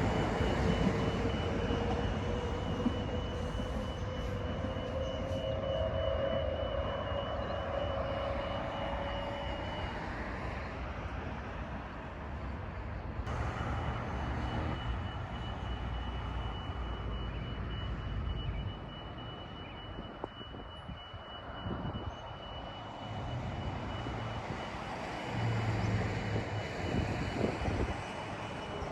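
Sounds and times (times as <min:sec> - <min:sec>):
electric train motor whine: 0:00.0 - 0:11.4, 0:13.3 - 0:28.9.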